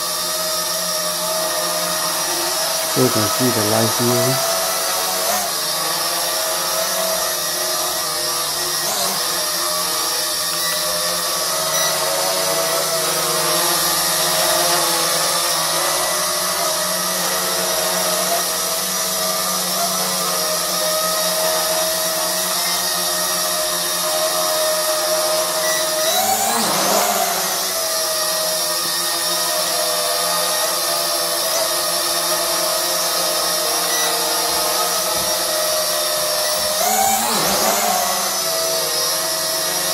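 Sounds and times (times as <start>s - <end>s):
toy drone motors whining: 0.0s - 39.9s.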